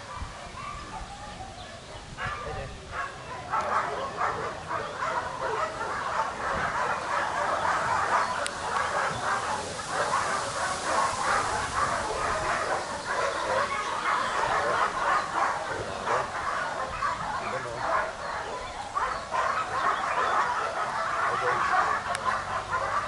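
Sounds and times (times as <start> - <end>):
many dogs barking and yelping: 0.0 - 23.0.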